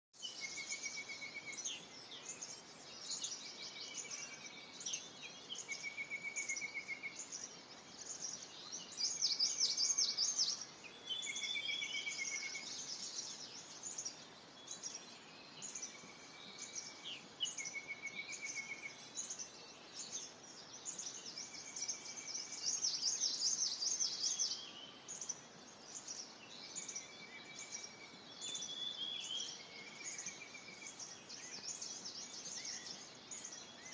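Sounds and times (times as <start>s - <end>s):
birds chirping in chorus: 0.2s - 33.9s.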